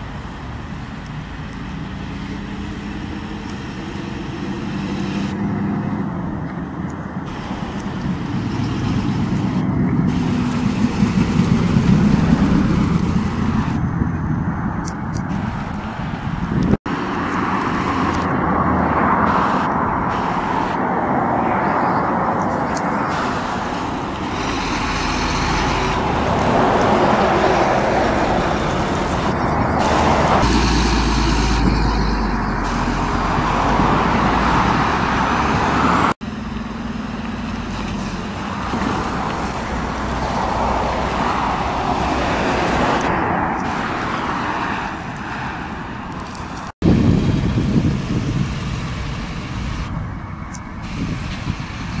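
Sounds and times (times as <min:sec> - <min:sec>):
fire truck engines: 0:00.0 - 0:52.0
heavy low engine rumble: 0:00.0 - 0:52.0
tyre and traffic noise: 0:00.0 - 0:52.0.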